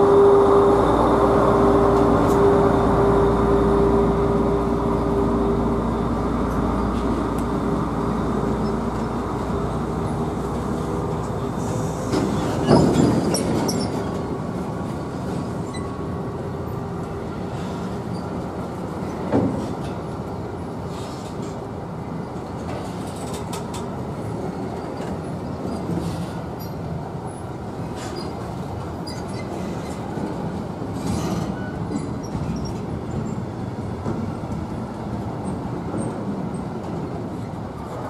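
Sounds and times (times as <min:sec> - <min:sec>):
diesel locomotive running: 0:00.0 - 0:38.0.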